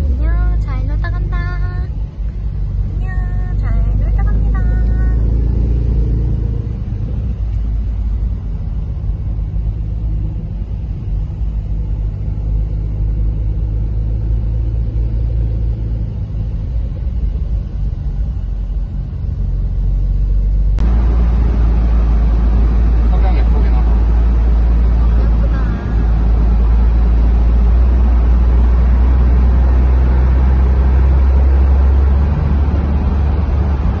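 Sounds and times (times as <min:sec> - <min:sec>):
car engine low rumble: 0:00.0 - 0:34.0
road and wind noise: 0:00.0 - 0:34.0.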